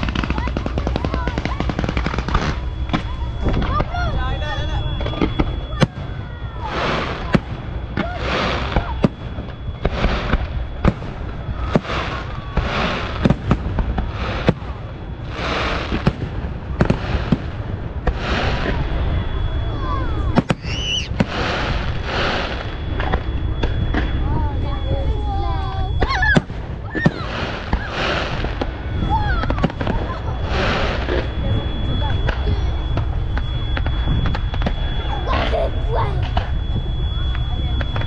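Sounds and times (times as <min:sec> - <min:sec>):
crackling shower of stars: 0:00.0 - 0:19.1, 0:19.7 - 0:38.0
fireworks bursting bangs: 0:00.0 - 0:38.0.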